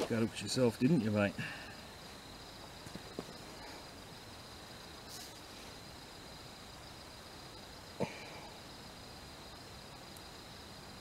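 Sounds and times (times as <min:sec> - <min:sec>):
night insects chorus: 0:00.0 - 0:11.0
soft hiss: 0:00.0 - 0:11.0.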